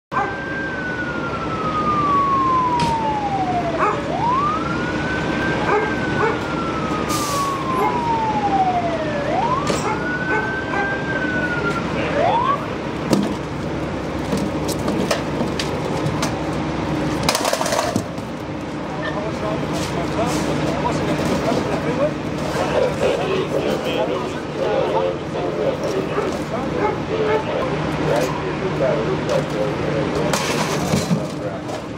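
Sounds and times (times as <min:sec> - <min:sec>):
emergency vehicle siren wailing: 0:00.1 - 0:31.9.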